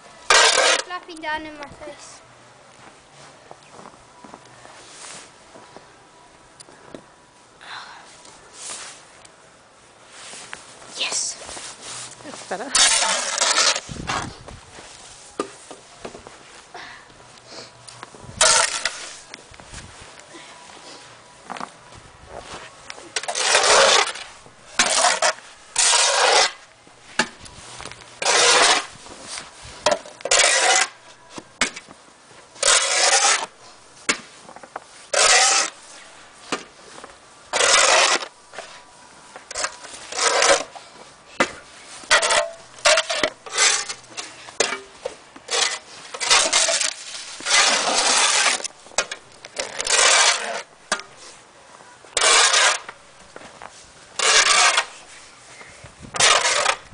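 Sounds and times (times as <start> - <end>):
snow shovels scraping paving: 0.2 - 2.2, 4.7 - 5.4, 8.5 - 9.2, 10.0 - 16.8, 17.5 - 21.6, 22.3 - 56.9.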